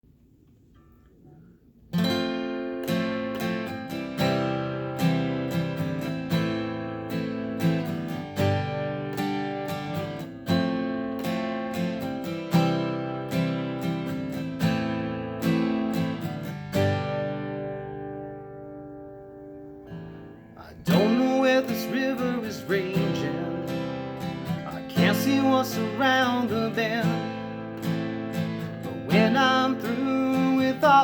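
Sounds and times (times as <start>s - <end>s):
acoustic guitar strumming: 0.8s - 31.0s.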